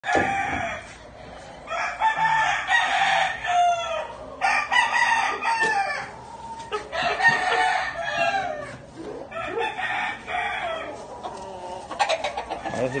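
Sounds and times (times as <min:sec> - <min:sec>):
chickens clucking: 0:00.0 - 0:13.0
roosters crowing: 0:00.0 - 0:13.0.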